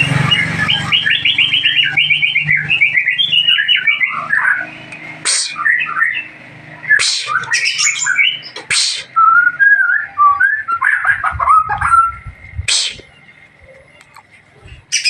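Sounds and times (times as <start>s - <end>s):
bird whistling song: 0.0s - 6.3s, 6.9s - 13.8s
harsh bird notes: 0.0s - 13.8s.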